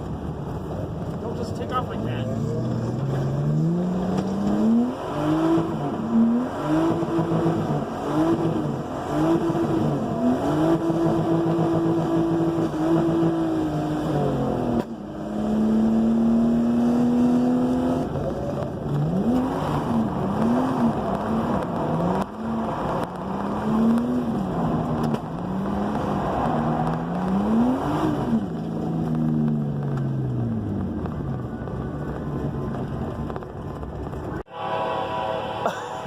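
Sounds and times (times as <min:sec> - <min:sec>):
car engine revving hard: 0:01.7 - 0:30.7.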